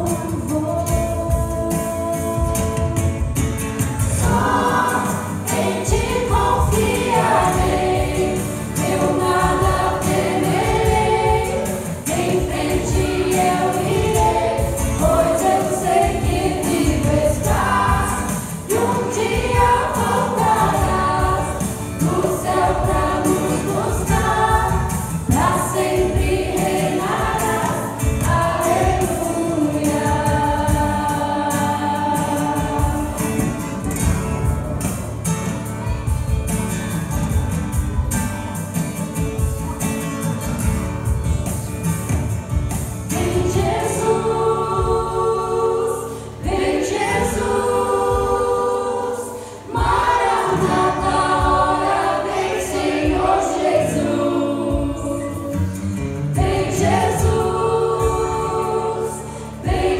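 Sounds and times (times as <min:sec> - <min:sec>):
choir singing: 0:03.8 - 0:35.1, 0:43.0 - 0:59.9.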